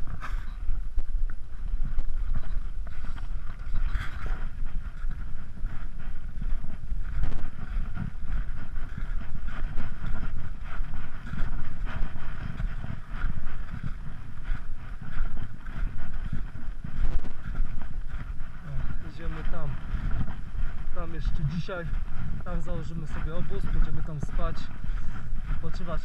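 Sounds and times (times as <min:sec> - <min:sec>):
footsteps crunching on snow: 0:00.0 - 0:26.0
wind buffeting microphone: 0:00.0 - 0:26.0.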